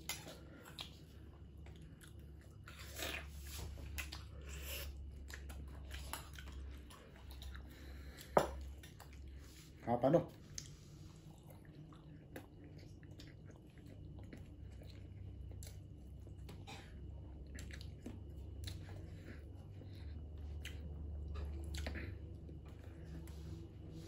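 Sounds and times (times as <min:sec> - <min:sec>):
chewing boiled egg: 0:00.0 - 0:24.0.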